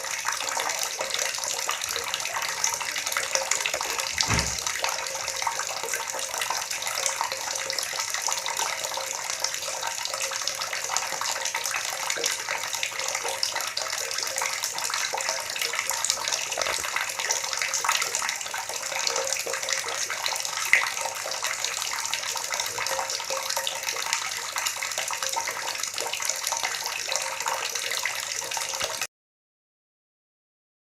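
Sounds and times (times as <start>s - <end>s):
water gurgling: 0.0s - 29.1s.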